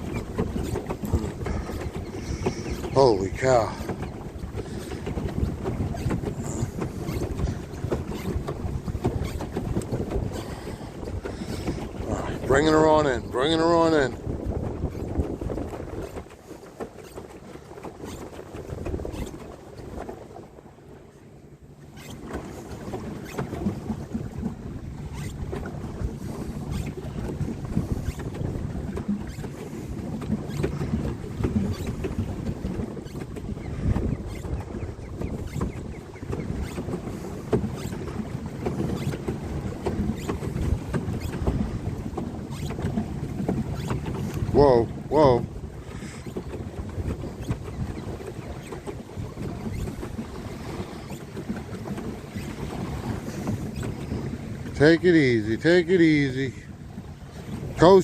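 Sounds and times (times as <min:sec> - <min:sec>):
water knocking and splashing: 0:00.0 - 0:21.1, 0:21.7 - 0:55.4, 0:56.0 - 0:58.0
wind buffeting microphone: 0:00.0 - 0:21.1, 0:21.8 - 0:58.0.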